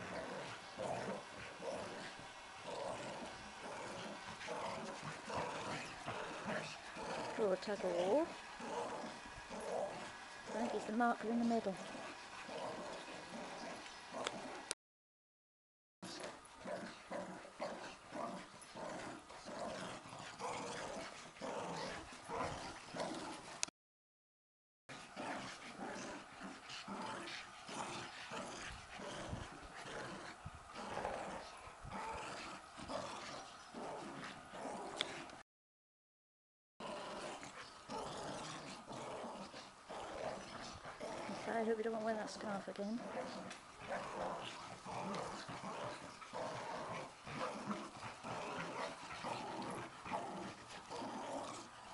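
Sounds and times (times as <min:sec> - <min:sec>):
dogs growling: 0:00.0 - 0:14.8, 0:16.0 - 0:23.7, 0:24.9 - 0:35.4, 0:36.8 - 0:51.9.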